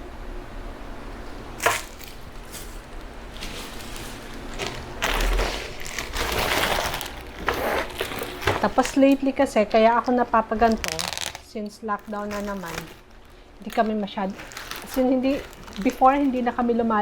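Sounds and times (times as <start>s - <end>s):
plastic packaging rustling: 1.3s - 16.9s.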